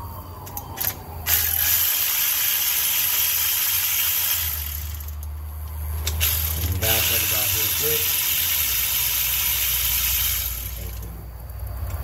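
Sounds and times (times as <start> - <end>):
ratchet wrench clicking: 0.5 - 11.0.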